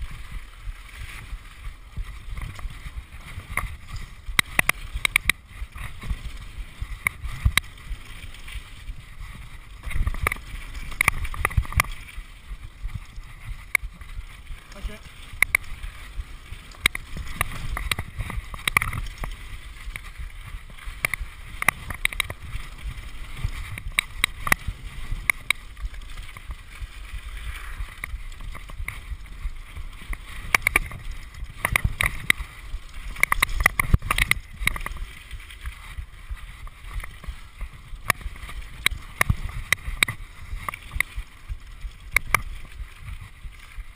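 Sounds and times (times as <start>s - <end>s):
bike clicking and rattling: 0.0s - 43.9s
tyres rumbling on gravel: 0.0s - 43.9s.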